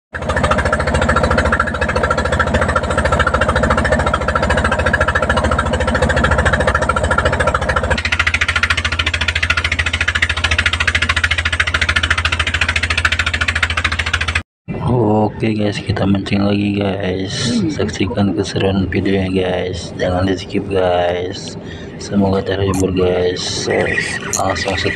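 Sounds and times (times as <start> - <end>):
boat engine chugging: 0.1 - 24.9.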